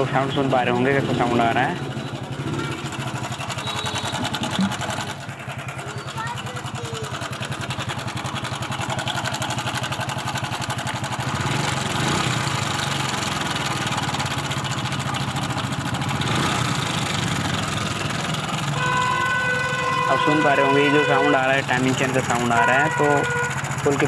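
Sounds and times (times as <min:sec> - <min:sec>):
motorcycle engine idling with rattle: 0:00.0 - 0:24.0.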